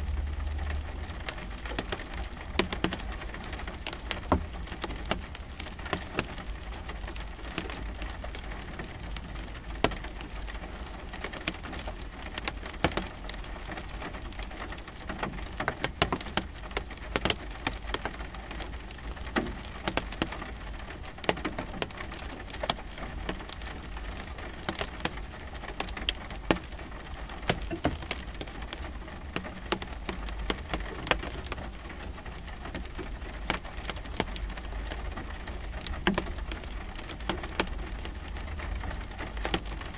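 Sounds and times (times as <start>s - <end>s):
low steady rumble: 0.0s - 39.9s
raindrops tapping windshield: 0.0s - 39.9s.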